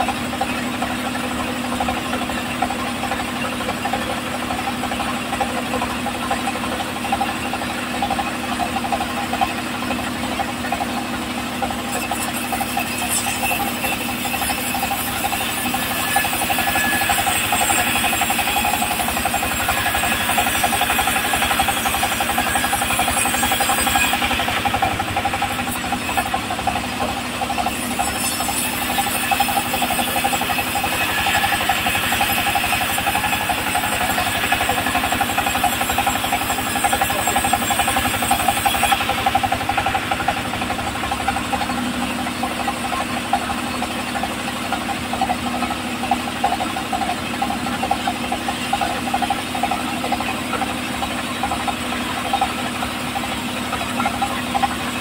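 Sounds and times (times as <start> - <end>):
stationary engine knocking: 0.0 - 55.0.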